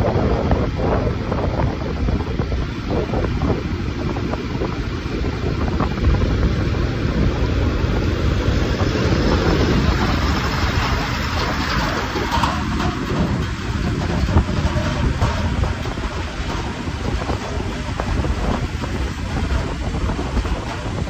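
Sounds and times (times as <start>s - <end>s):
vehicle road noise: 0.0s - 21.0s
wind noise on microphone: 0.0s - 21.0s.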